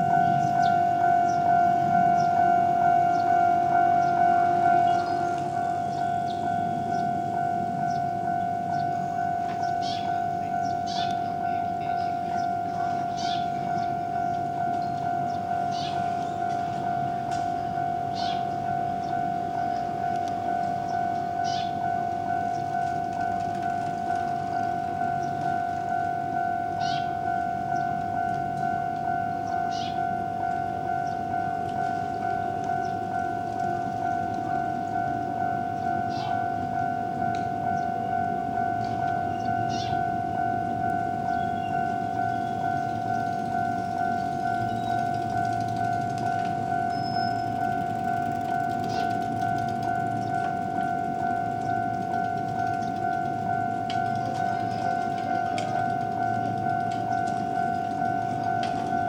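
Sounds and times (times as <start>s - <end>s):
level-crossing warning bell clanging: 0.0s - 59.0s.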